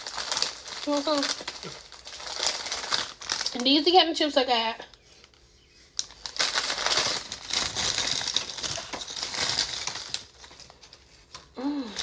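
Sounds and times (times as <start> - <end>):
chip bag crinkling: 0.0 - 5.4, 6.0 - 12.0.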